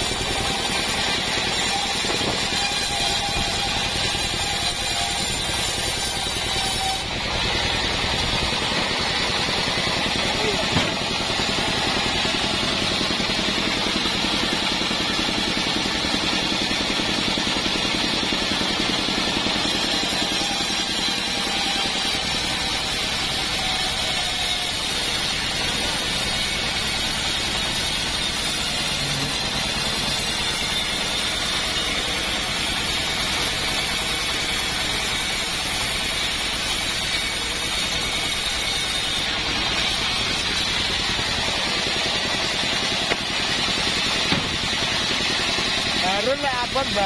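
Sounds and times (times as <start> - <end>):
band sawmill cutting wood: 0.0 - 47.0.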